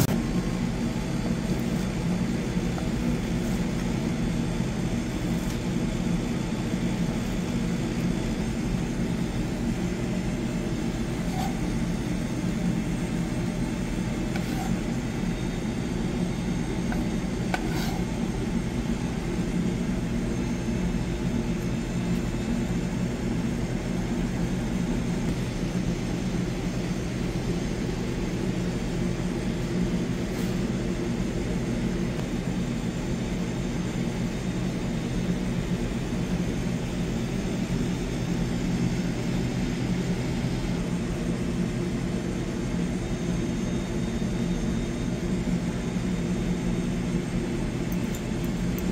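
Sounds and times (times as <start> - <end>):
kitchen machinery droning: 0.0 - 48.9.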